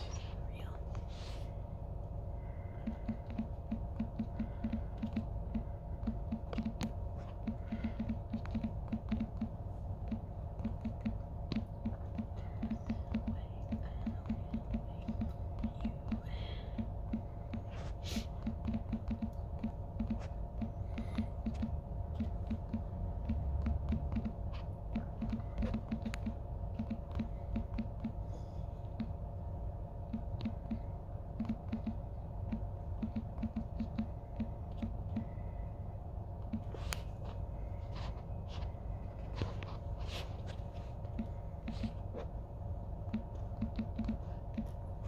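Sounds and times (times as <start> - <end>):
fingertips tapping on touchscreen: 2.4 - 29.2, 30.0 - 35.7, 36.4 - 42.3, 43.0 - 44.8.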